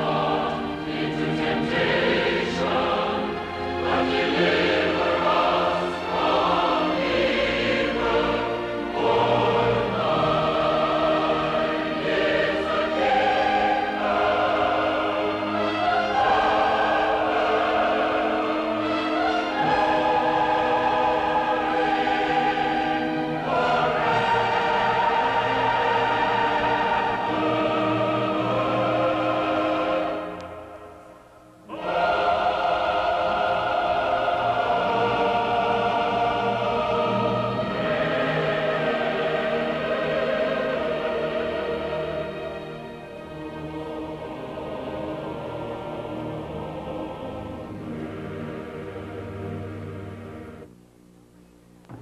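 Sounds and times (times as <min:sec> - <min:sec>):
choir singing held chords: 0:00.0 - 0:50.7.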